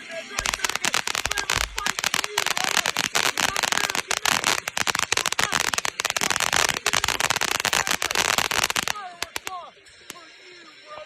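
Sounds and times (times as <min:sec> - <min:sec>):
fireworks cracking and popping: 0:00.3 - 0:10.2.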